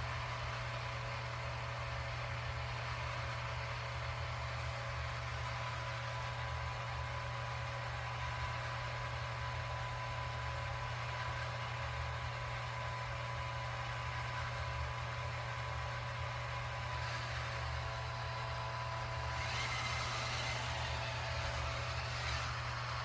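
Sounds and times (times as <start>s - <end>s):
machine hum and whir: 0.0s - 23.0s.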